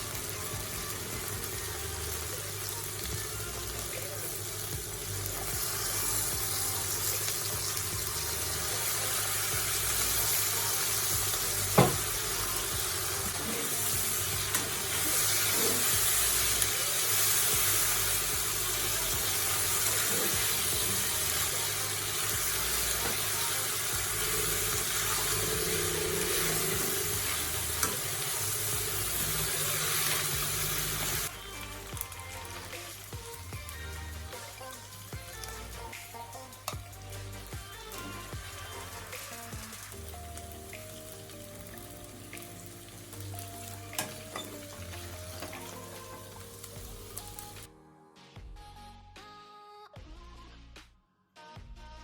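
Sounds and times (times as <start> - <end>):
noodles sizzling in a pan: 0.0 - 47.7.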